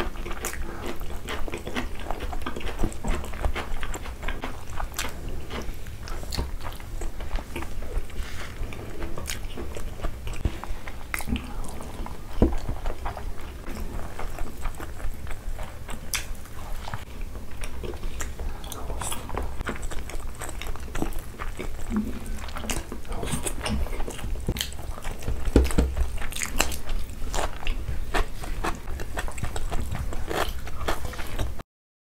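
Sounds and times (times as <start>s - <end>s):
people chewing and biting: 0.0s - 31.6s
steady low hum: 0.0s - 31.6s.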